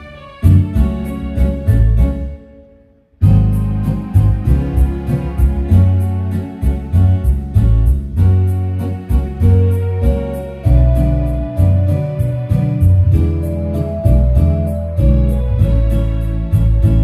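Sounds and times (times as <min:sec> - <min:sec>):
instrumental music with beat and bass: 0:00.0 - 0:02.5, 0:03.2 - 0:17.0.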